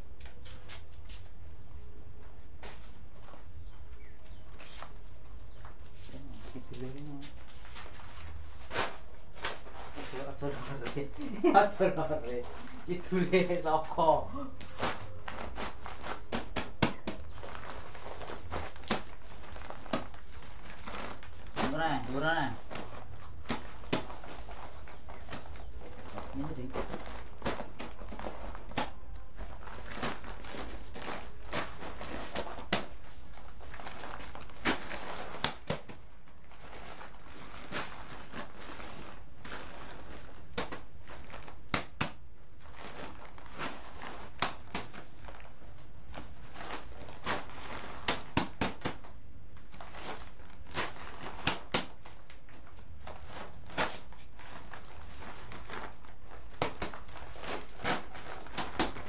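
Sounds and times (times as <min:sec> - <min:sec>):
plastic crinkling: 0:02.2 - 0:59.0.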